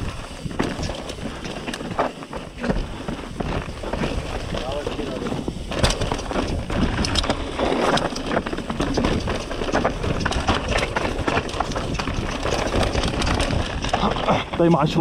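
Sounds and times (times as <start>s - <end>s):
bike knocks and rattles: 0.0s - 15.0s
tyres rolling over stones: 0.0s - 15.0s.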